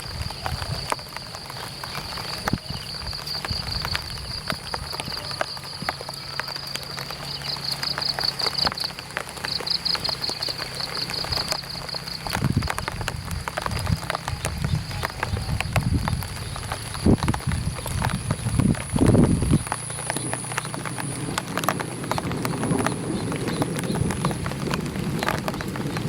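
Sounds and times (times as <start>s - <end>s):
rain pattering on an umbrella: 0.0s - 26.0s.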